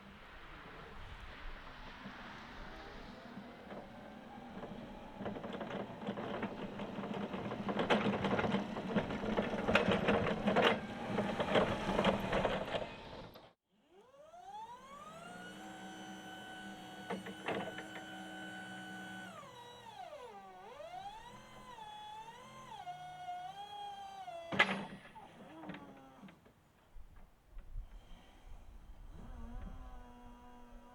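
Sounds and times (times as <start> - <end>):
electric motor whine: 2.5 - 26.4, 27.8 - 30.9.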